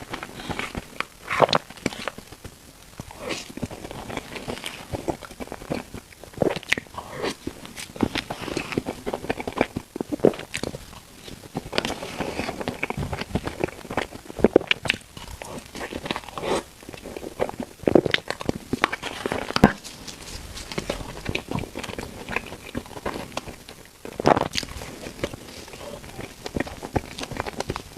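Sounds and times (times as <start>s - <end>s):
person chewing food: 0.0s - 27.9s
sharp clicks and smacking: 0.0s - 27.9s.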